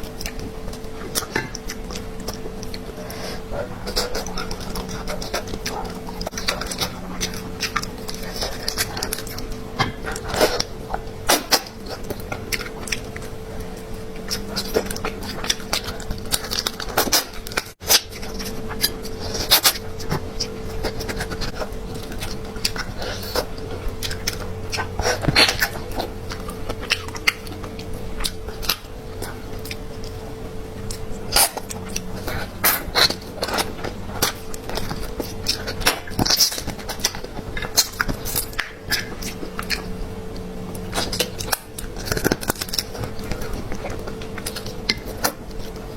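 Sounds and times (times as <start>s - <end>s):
low hum: 0.0s - 45.9s
person chewing food: 0.0s - 45.9s.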